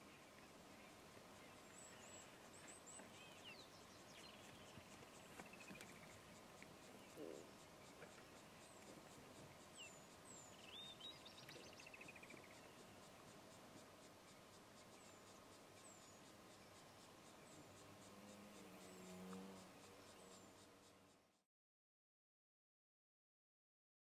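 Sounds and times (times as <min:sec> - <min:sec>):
birds chirping: 0:00.0 - 0:21.2
faint insect ticking: 0:00.0 - 0:21.4.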